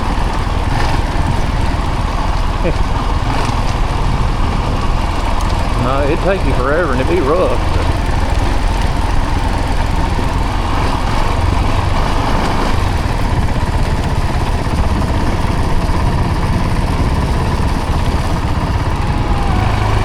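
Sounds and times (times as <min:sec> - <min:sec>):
off-road vehicle engine rumbling: 0:00.0 - 0:20.0.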